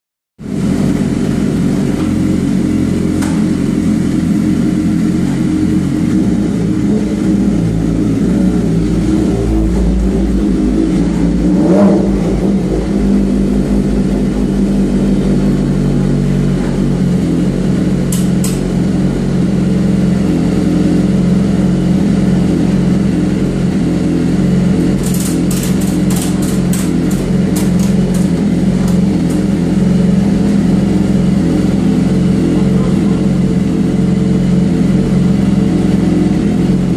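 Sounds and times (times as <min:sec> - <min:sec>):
motorcycle engine running on dyno: 0:00.4 - 0:36.9.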